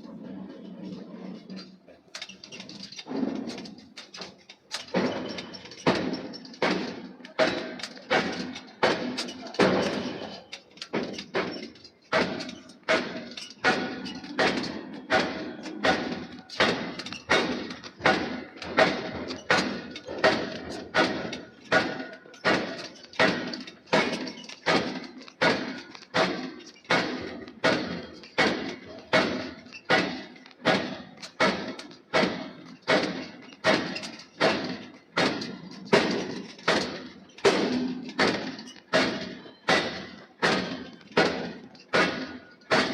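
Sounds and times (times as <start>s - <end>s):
hammer striking hot steel: 1.4s - 42.9s.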